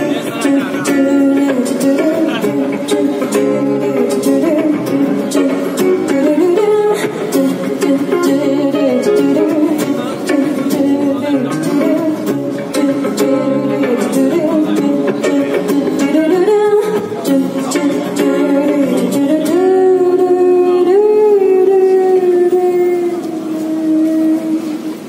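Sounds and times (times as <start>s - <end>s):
drums: 0.0s - 25.0s
electric guitar: 0.0s - 25.0s
person singing: 0.0s - 25.0s
strummed guitars: 0.0s - 25.0s.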